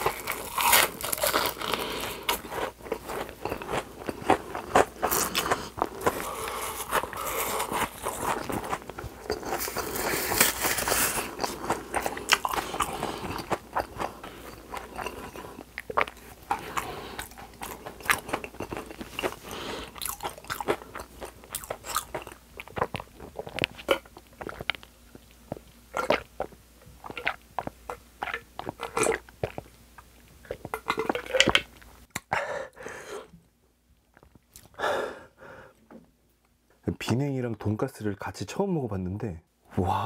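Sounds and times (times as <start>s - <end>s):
chewing and crunching food: 0.0s - 32.3s, 33.9s - 34.8s.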